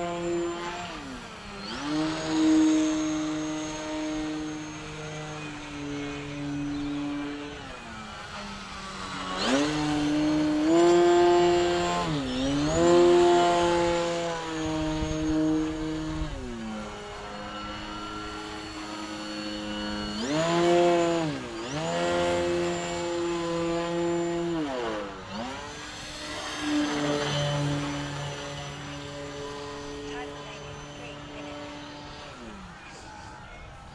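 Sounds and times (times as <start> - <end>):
electric motor whine: 0.0 - 33.9
propeller buzz: 0.0 - 33.9.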